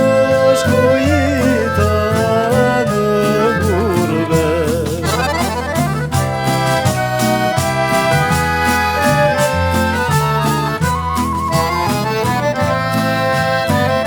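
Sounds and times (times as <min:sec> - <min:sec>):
folk ensemble playing instrumental: 0:00.0 - 0:14.0.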